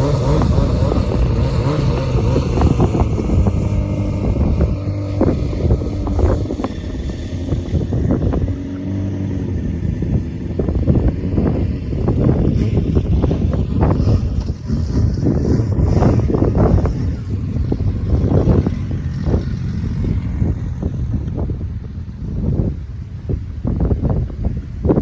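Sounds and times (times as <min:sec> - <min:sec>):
engine running at low pitch: 0:00.0 - 0:25.0
wind buffeting microphone: 0:00.0 - 0:25.0.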